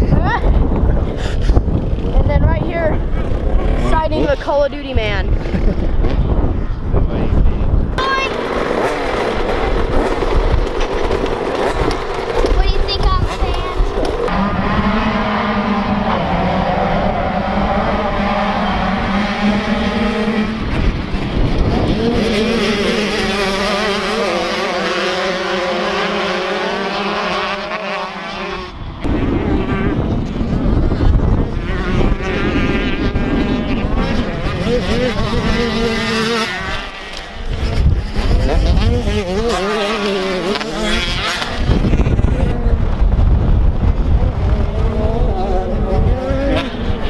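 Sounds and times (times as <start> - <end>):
dirt bike engines racing: 0.0 - 47.0
wind buffeting microphone: 0.0 - 47.0.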